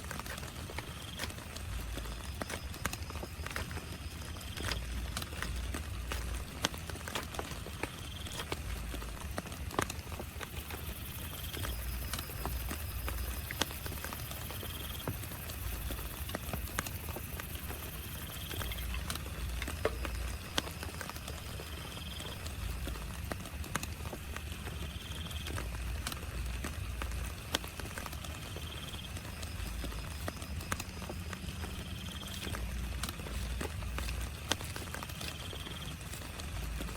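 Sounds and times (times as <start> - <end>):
rain pattering on a tent: 0.0 - 36.9.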